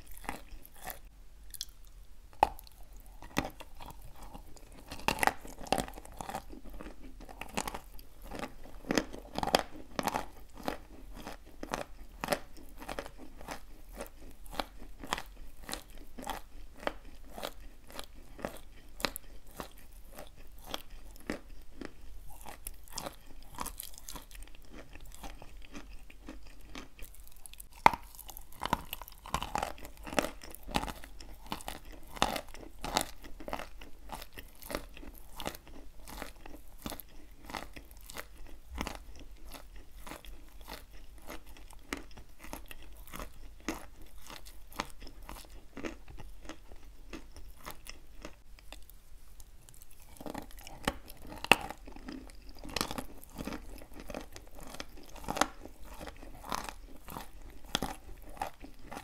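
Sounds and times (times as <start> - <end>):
chalk crunching while chewed: 0.0 - 59.0.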